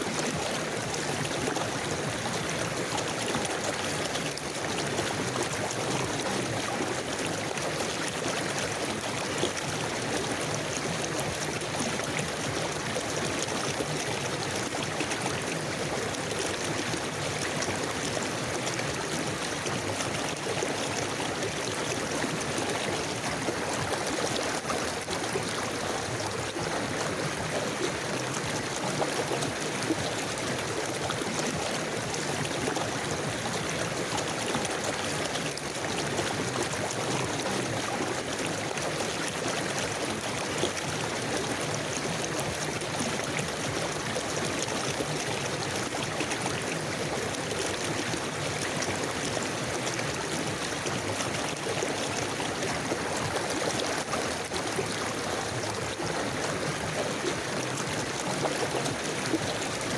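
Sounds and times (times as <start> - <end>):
river water babbling: 0.0 - 59.9.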